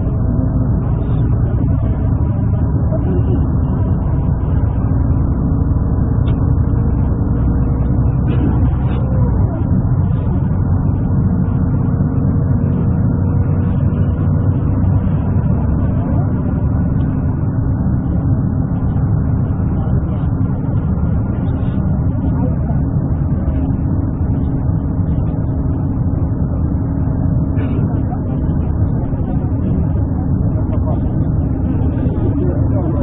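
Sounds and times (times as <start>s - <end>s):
motor vehicles rumbling: 0.0s - 33.0s.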